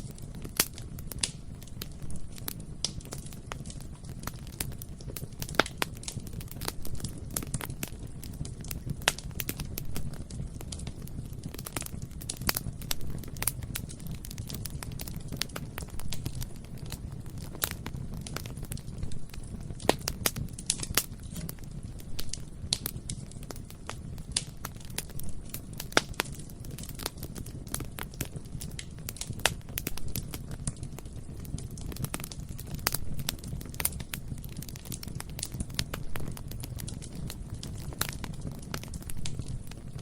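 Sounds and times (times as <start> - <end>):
bonfire flames roaring: 0.0 - 40.0
burning wood crackling and popping: 0.0 - 40.0.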